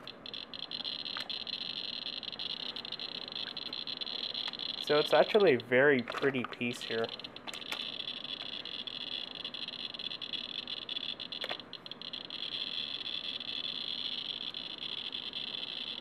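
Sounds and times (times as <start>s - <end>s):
geiger counter crackling buzz: 0.0s - 16.0s
loud geiger counter click: 0.0s - 16.0s.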